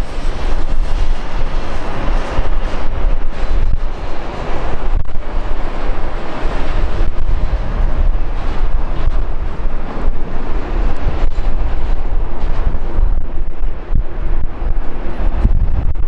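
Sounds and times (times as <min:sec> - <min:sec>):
jet engines taxiing: 0:00.0 - 0:16.0
wind buffeting microphone: 0:00.0 - 0:16.0.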